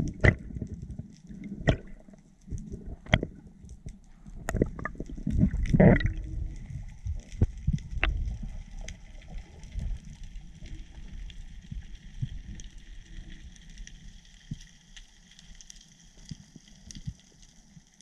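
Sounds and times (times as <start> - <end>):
underwater rushing and rumbling: 0.0 - 18.0.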